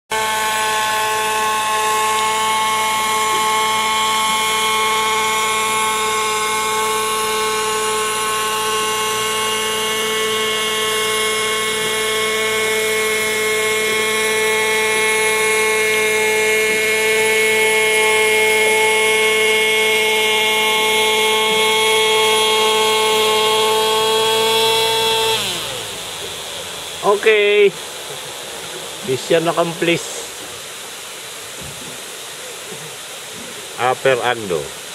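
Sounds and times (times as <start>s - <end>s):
model helicopter whine: 0.1s - 31.6s.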